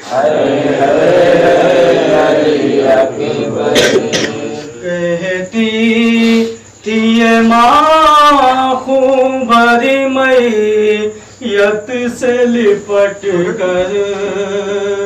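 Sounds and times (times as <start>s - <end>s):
man reciting a lament: 2.2s - 15.0s.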